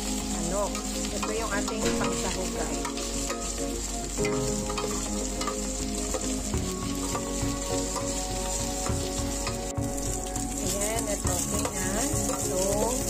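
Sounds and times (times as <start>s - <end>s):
chicken sizzling in hot oil: 0.0s - 13.0s
metal spatula scraping a pan: 0.7s - 13.0s.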